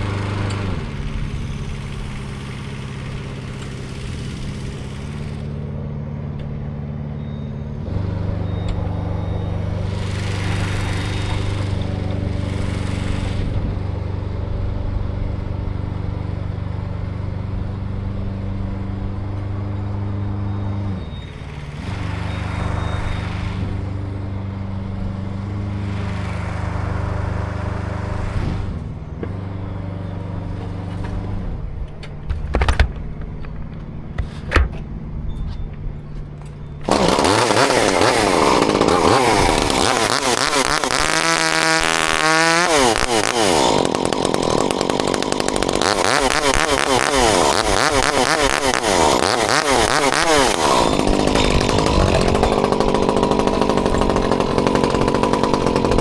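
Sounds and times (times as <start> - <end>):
chainsaw cutting wood: 0.0 - 6.0, 7.8 - 29.6, 36.8 - 56.0
engine idling: 0.0 - 56.0.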